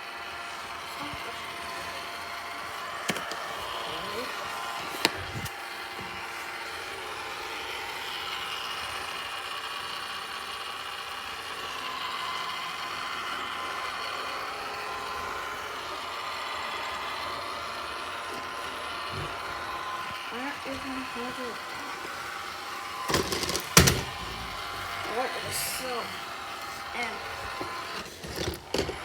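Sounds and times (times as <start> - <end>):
robot vacuum whirring: 0.0 - 29.0.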